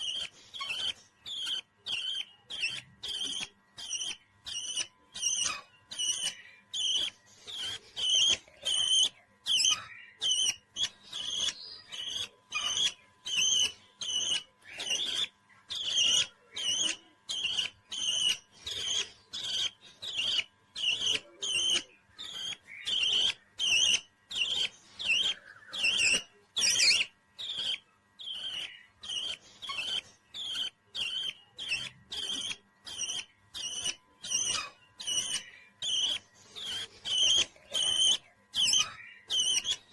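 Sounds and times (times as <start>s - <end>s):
parrot chirping: 0.0s - 39.9s.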